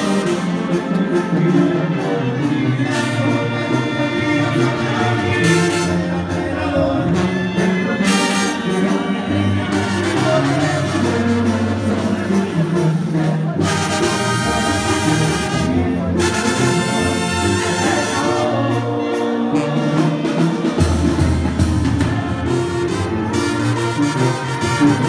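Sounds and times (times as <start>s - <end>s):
live band playing: 0.0s - 25.0s
tuba bass line: 0.0s - 25.0s.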